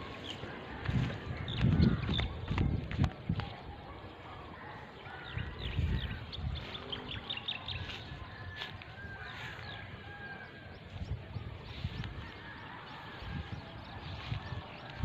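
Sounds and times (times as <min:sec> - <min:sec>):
footsteps through grass: 0:00.0 - 0:03.7, 0:04.5 - 0:15.0
small birds chirping: 0:00.0 - 0:15.0.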